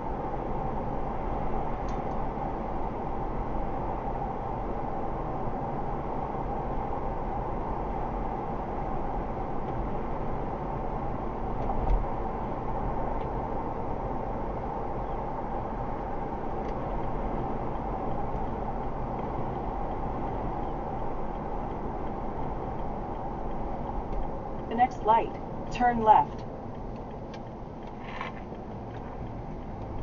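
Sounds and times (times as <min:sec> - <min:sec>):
low engine rumble: 0:00.0 - 0:30.0
tyre and road noise: 0:00.0 - 0:30.0.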